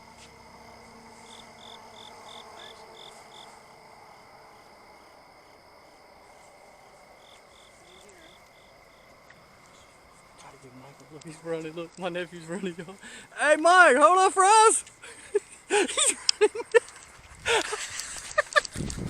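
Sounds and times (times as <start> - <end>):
crickets chirping: 0.0 - 19.0
insects trilling: 0.0 - 19.0.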